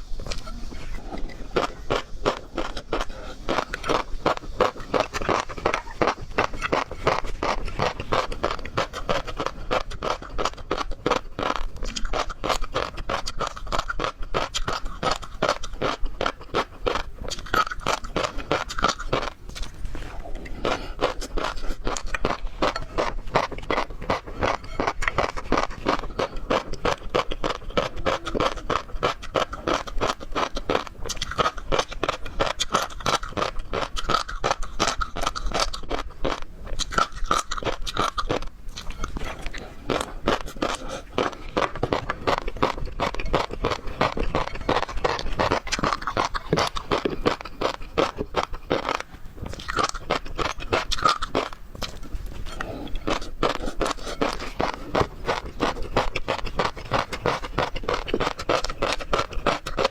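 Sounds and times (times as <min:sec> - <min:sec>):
crunching and chewing seafood: 0:00.0 - 0:59.9.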